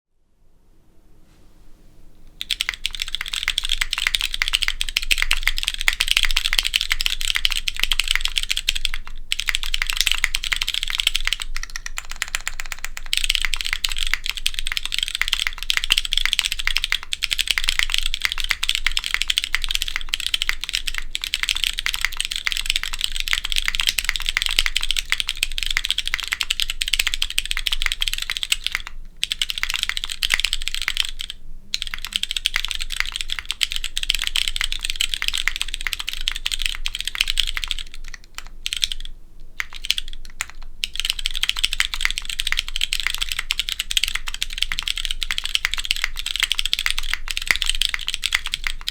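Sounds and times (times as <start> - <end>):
fast typing on mechanical keyboard: 2.4 - 48.9.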